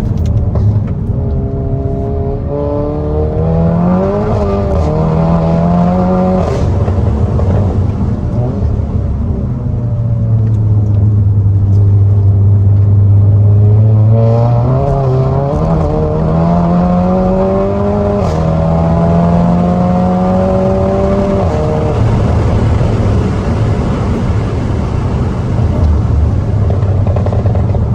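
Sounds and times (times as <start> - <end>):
turbocharged car engine pulling: 0.0 - 27.9.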